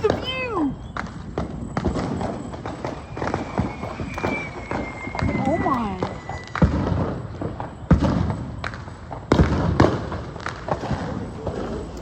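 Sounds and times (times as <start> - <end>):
fireworks banging: 0.0 - 12.0.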